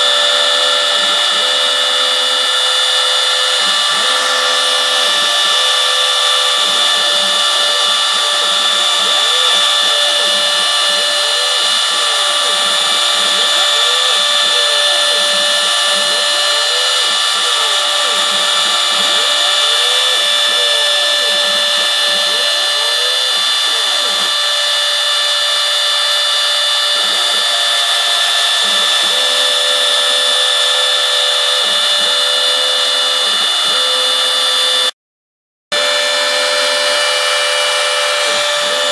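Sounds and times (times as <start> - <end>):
motors rising and falling tone: 0.0 - 34.9, 35.7 - 38.9
spindle high whine: 0.0 - 34.9, 35.7 - 38.9.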